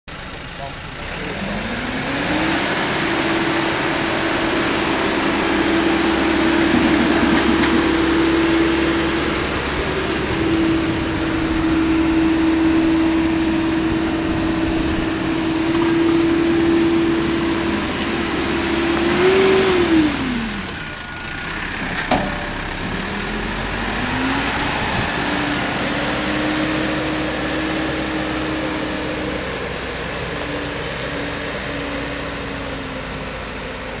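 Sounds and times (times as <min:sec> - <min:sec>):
diesel engine revving: 0:00.1 - 0:34.0.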